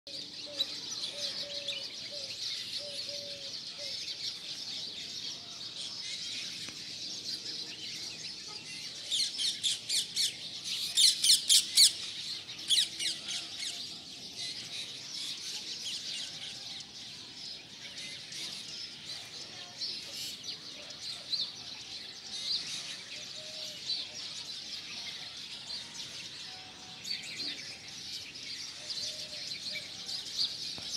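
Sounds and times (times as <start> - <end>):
birds chirping and twittering: 0.1 - 30.9.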